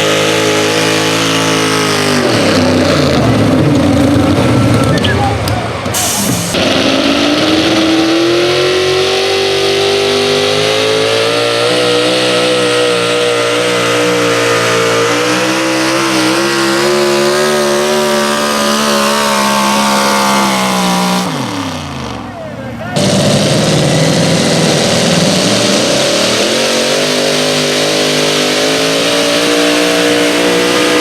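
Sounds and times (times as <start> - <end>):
pulling engine at full throttle: 0.0 - 31.0.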